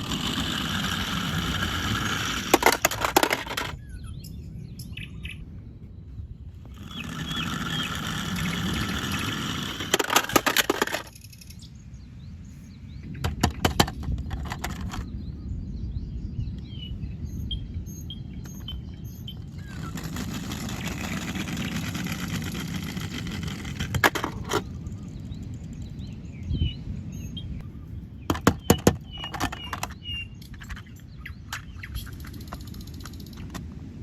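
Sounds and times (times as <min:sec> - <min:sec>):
low steady rumble: 0:00.0 - 0:28.3
small birds chirping: 0:00.0 - 0:33.7.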